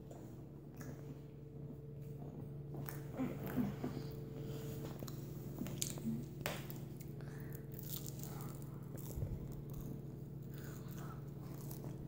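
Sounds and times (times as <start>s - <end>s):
steady low hum: 0.0s - 12.0s
person chewing waffle: 0.1s - 12.0s.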